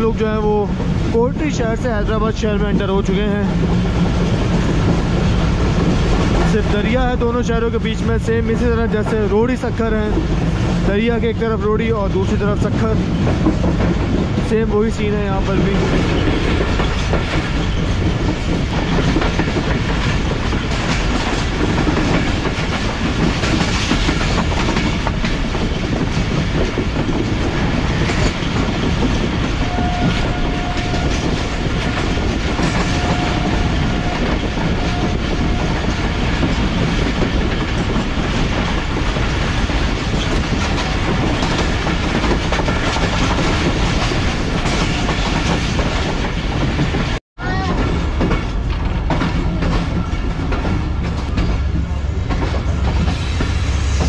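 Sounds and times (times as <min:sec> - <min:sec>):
train rumble: 0:00.0 - 0:54.0
train wheels clattering on rail joints: 0:00.0 - 0:54.0.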